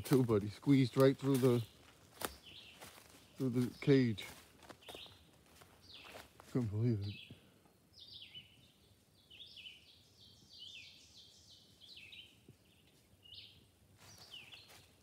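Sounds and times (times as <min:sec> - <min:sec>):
bird chirping: 0:00.7 - 0:15.0.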